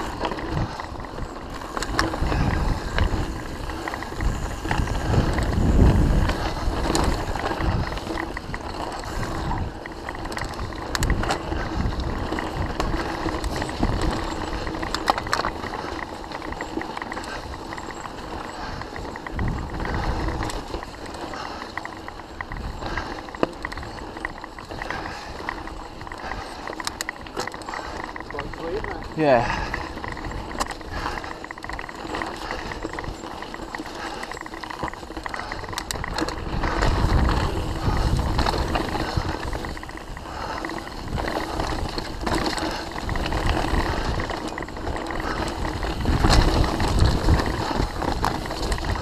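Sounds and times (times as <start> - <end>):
wind rumble on microphone: 0.0 - 16.6, 17.2 - 49.0
bike clicking and rattling: 0.0 - 49.0
bike tyres on dirt trail: 0.0 - 49.0.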